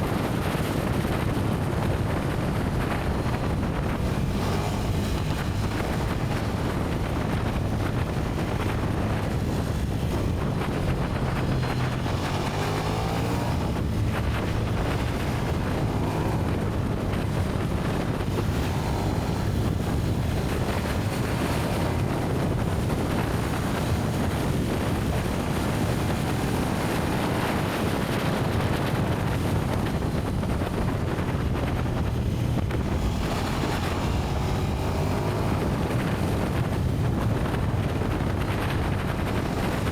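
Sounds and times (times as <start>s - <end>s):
motorcycle engine revving: 0.0s - 39.9s
wind buffeting microphone: 0.0s - 39.9s.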